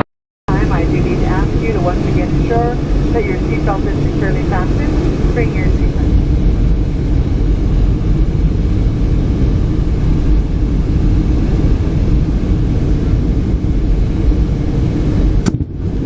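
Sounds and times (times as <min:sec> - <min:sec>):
loud low rumble: 0:00.0 - 0:16.0.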